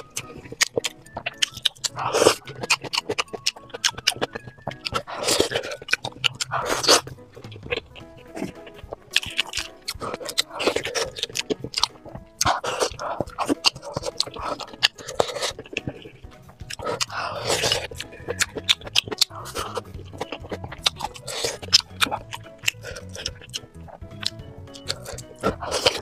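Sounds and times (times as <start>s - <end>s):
faint background music: 0.0s - 26.0s
wet chewing: 0.0s - 26.0s.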